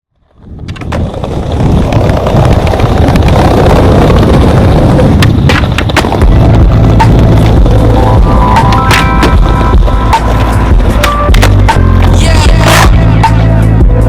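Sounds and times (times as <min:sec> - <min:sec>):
skateboard wheels rolling: 0:00.2 - 0:13.7.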